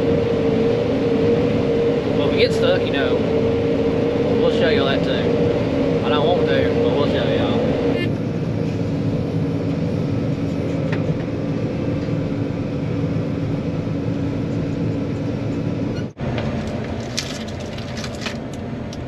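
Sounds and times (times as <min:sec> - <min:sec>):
cab drone: 0:00.0 - 0:19.0
combine running: 0:00.0 - 0:19.0.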